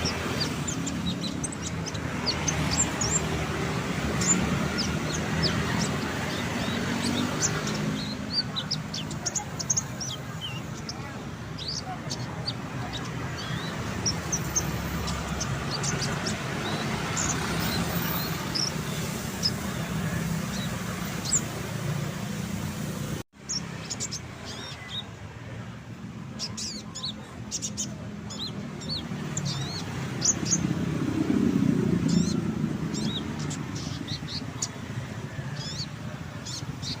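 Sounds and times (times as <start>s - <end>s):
songbird chirping and twittering: 0.0s - 37.0s.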